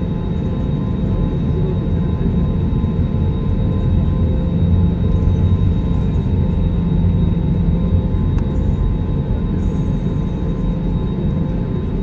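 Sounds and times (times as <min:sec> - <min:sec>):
low engine rumble in cabin: 0:00.0 - 0:12.0
steady whining tones: 0:00.0 - 0:12.0.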